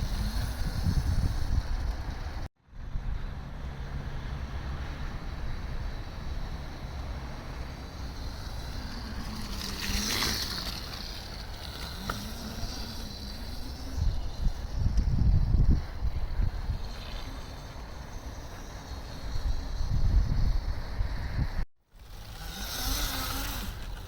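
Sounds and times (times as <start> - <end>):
electric motor whine: 0.0 - 2.5, 4.0 - 24.0
wind noise on microphone: 0.0 - 24.0.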